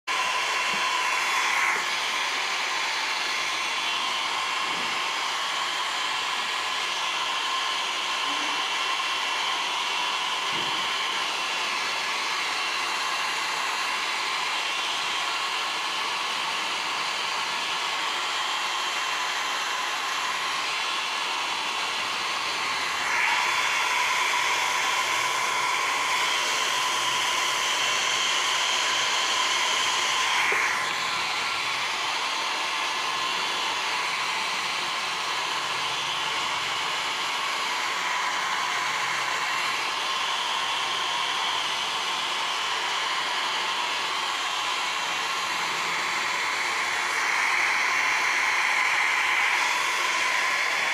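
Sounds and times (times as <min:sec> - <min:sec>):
hair dryer blowing: 0:00.0 - 0:50.9.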